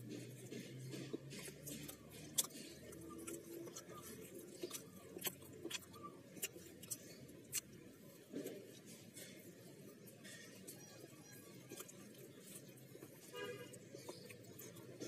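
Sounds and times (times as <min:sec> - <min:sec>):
mouth clicks and smacks: 0:00.0 - 0:10.8, 0:11.5 - 0:15.0
man chewing: 0:00.0 - 0:15.0.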